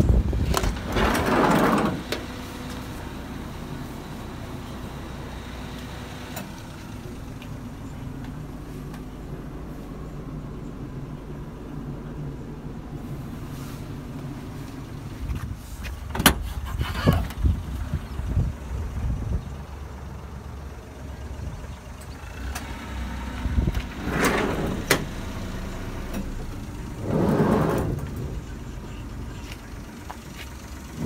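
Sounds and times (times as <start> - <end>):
van engine idling: 0.0 - 31.0.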